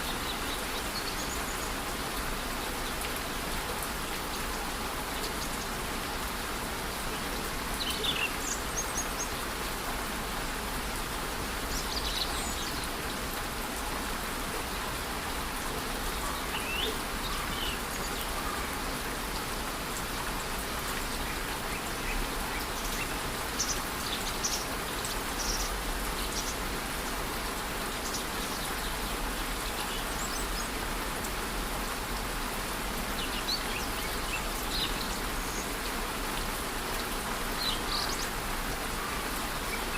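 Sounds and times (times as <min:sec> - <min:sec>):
rain and falling water: 0:00.0 - 0:39.9.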